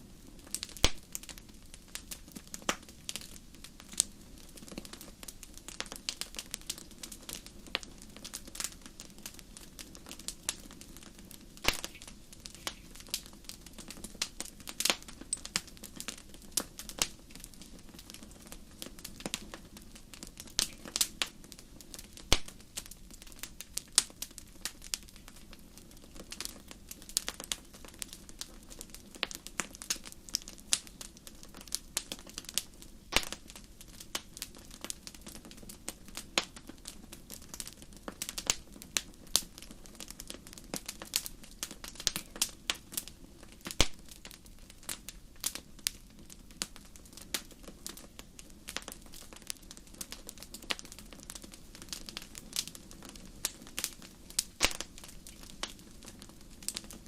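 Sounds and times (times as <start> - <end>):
fire popping and snapping: 0.0 - 57.0
low rushing of flames: 0.0 - 57.0
wood fire crackling: 0.0 - 57.0.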